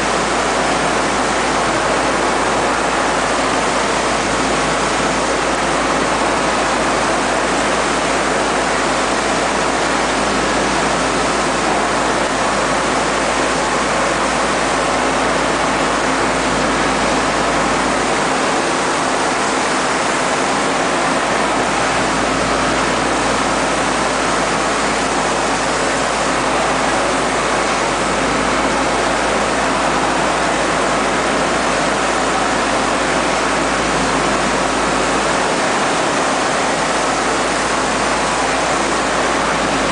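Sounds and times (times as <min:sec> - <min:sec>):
faint machine hum: 0:00.0 - 0:39.9.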